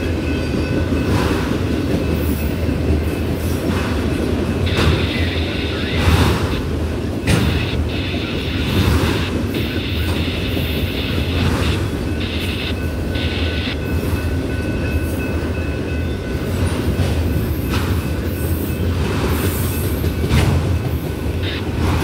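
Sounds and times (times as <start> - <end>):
steel wheels rumbling on rail: 0.0 - 22.0.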